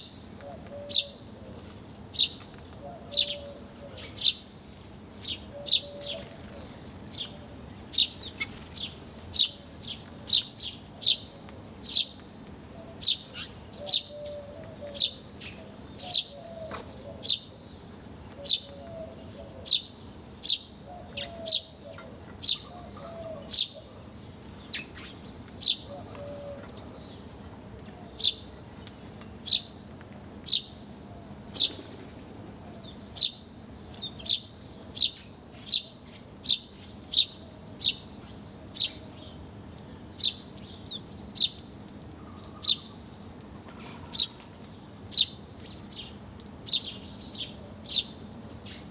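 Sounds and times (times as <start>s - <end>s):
faint low bird calls: 5.2s - 28.5s, 32.6s - 48.9s.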